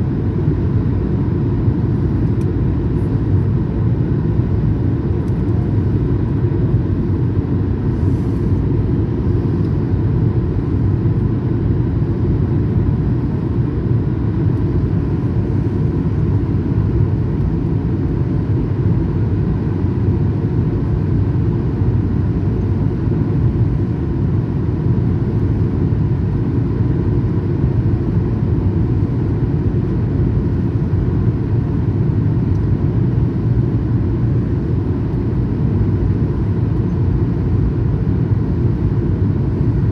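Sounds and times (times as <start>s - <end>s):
engine and airflow rumble: 0.0s - 39.9s
faint steady whine: 0.0s - 39.9s.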